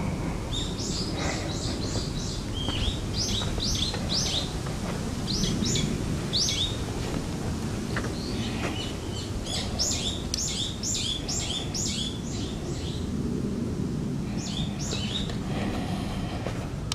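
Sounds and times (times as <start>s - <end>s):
low background rumble: 0.0s - 16.9s.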